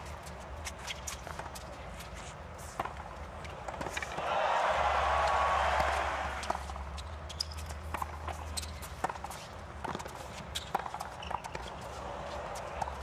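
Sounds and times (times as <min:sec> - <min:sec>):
tennis racquets hitting ball: 0:00.9 - 0:13.0.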